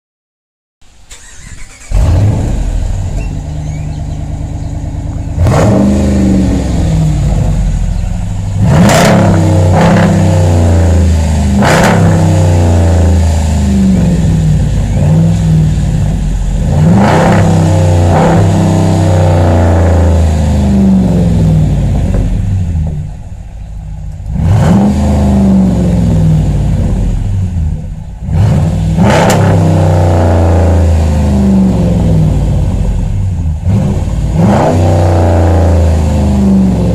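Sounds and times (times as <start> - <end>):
car engine idling: 0.8 - 36.9
car engine revving: 0.9 - 36.9.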